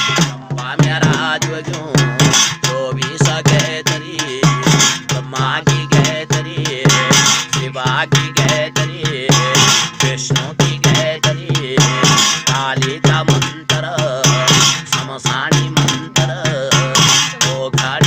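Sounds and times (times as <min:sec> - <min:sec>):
double-headed drum beat: 0:00.0 - 0:18.0
men singing: 0:00.0 - 0:18.0
metal plate played on pot: 0:00.0 - 0:18.0.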